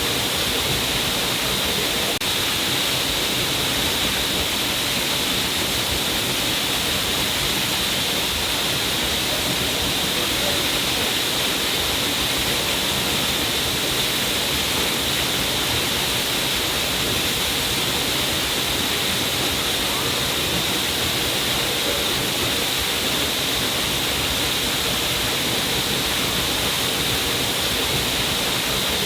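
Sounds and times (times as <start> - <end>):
waterfall splashing: 0.0 - 29.0.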